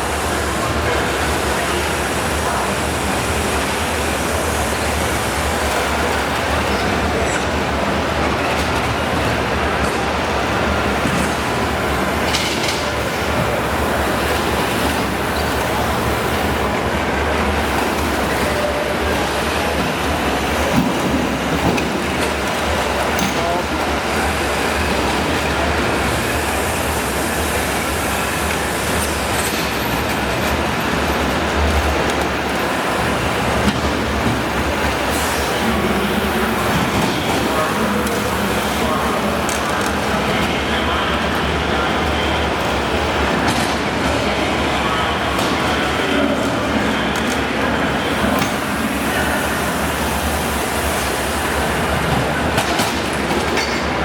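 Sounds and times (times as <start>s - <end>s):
crowd din in arena: 0.0s - 54.0s.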